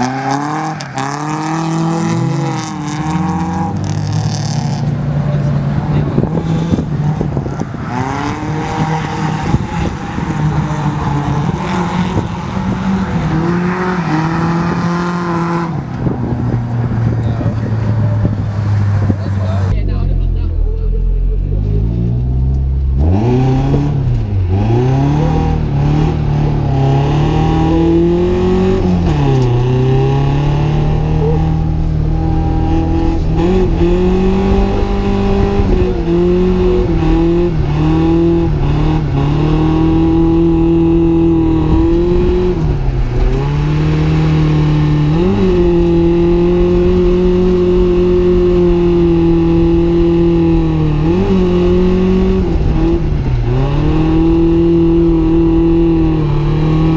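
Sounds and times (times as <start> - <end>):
car engine revving high: 0.0 - 56.9.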